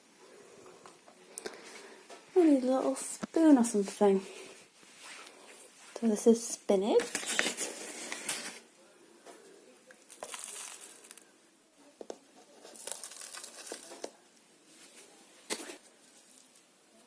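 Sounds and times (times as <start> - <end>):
plastic pots rustling and crinkling: 0.8 - 17.0.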